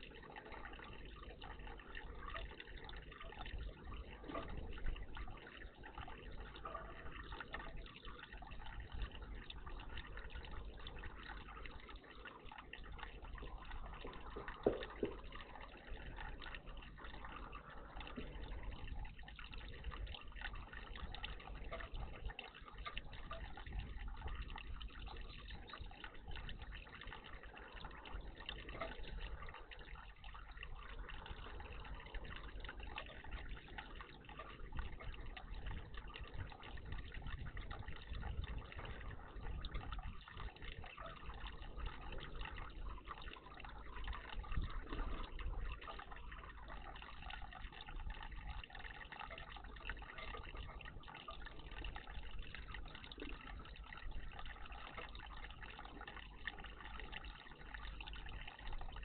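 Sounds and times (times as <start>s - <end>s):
water trickling in birdbath: 0.0s - 59.0s.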